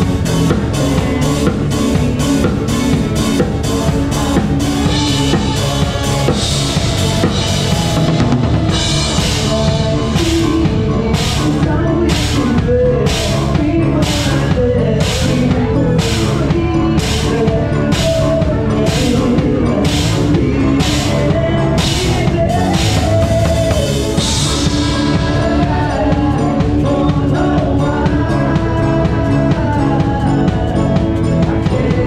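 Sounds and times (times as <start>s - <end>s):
drum kit hits: 0.0s - 32.0s
live band playing: 0.0s - 32.0s.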